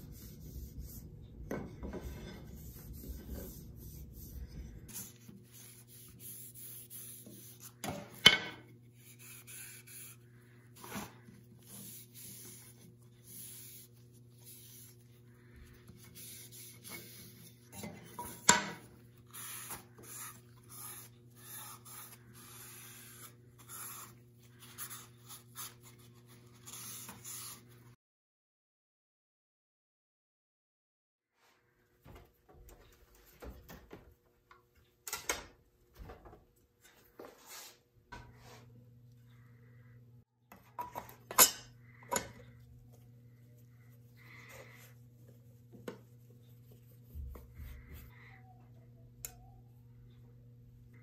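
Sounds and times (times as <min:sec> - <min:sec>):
low steady hum: 0:00.0 - 0:28.0, 0:31.4 - 0:51.0.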